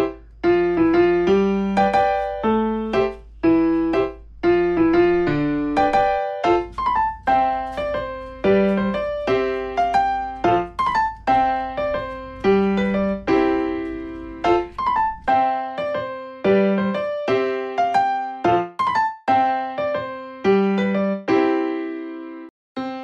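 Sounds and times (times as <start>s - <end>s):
electric piano melody: 0.0s - 23.0s.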